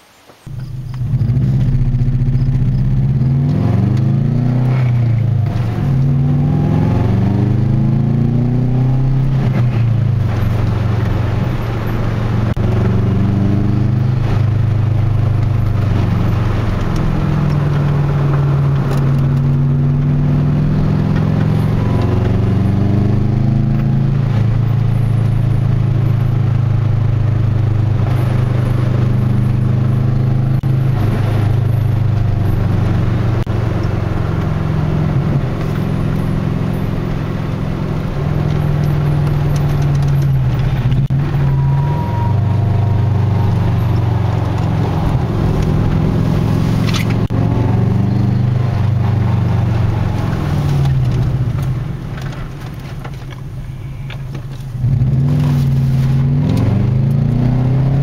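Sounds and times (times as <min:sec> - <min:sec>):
car engine accelerating: 0:00.5 - 0:58.0.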